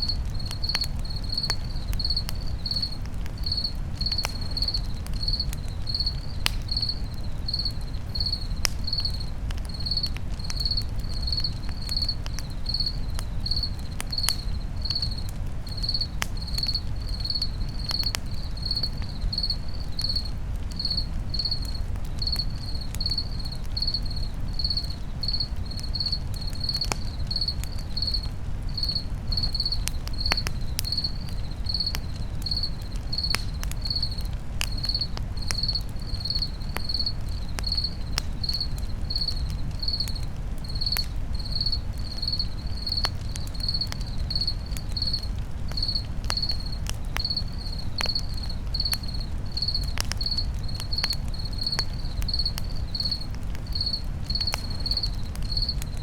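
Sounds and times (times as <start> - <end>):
crackling campfire: 0.0 - 56.0
cricket chirping: 0.0 - 56.0.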